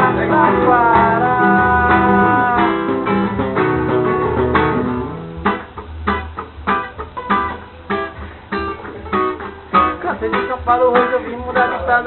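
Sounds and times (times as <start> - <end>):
guitar strumming: 0.0 - 12.0
ringing guitar chords: 0.0 - 12.0.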